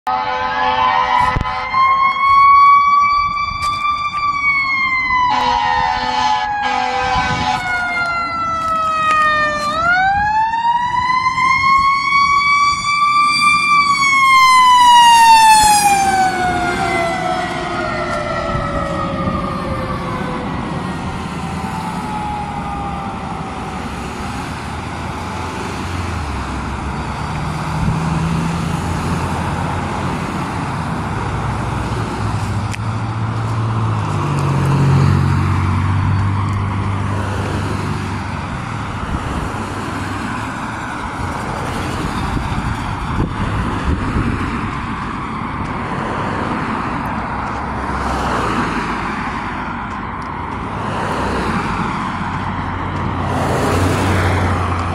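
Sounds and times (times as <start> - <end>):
fire engine siren wailing: 0.0 - 54.9
cars passing: 0.1 - 54.9
vehicle engine hum: 0.1 - 54.9.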